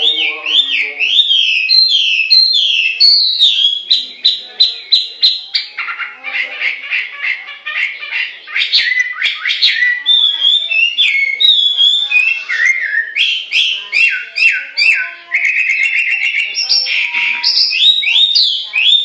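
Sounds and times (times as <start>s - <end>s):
bird singing whistled song: 0.0s - 6.0s, 8.6s - 19.0s.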